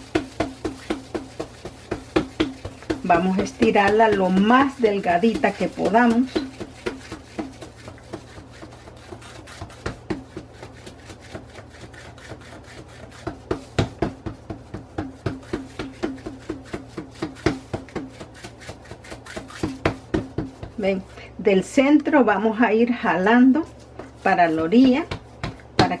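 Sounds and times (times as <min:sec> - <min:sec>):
hand slapping dough: 0:00.0 - 0:21.1, 0:23.1 - 0:26.0.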